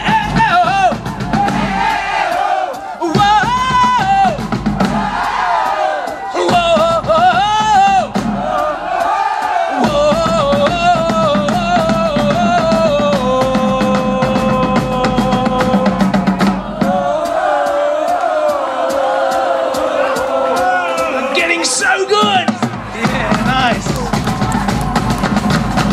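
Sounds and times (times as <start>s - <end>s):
pounding drums: 0.0s - 25.9s.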